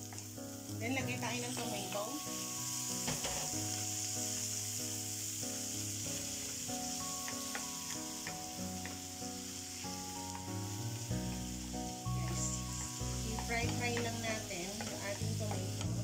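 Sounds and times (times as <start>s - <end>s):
food sizzling in a pan: 0.0s - 16.0s
soft background music: 0.0s - 16.0s.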